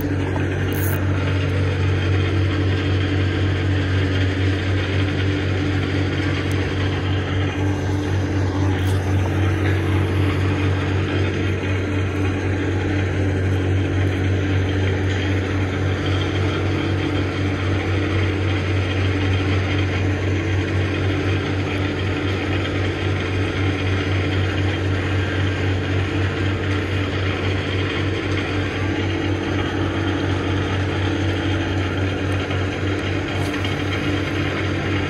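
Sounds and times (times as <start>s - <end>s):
industrial machinery drone: 0.0s - 35.0s.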